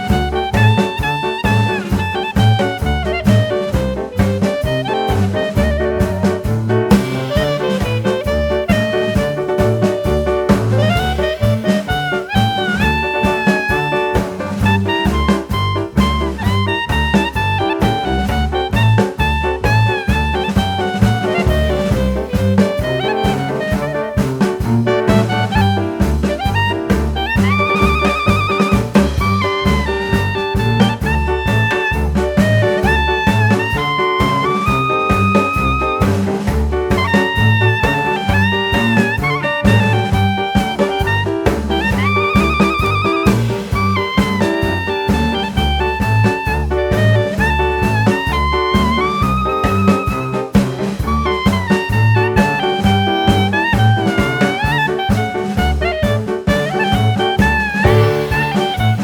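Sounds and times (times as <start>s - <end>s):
bass and drum beat: 0.0s - 59.0s
saxophone melody: 0.0s - 59.0s
swing jazz music: 0.0s - 59.0s.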